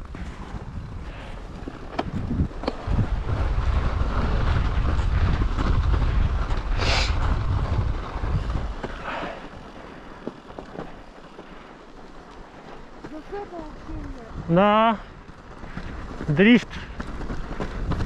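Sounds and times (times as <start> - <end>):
bike tyres on icy snow: 0.0 - 18.0
wind buffeting microphone: 0.0 - 18.0.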